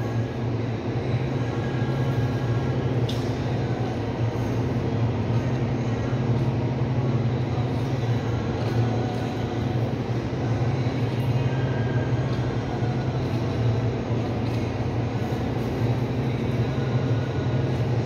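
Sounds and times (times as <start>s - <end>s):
refrigeration unit humming: 0.0s - 18.0s.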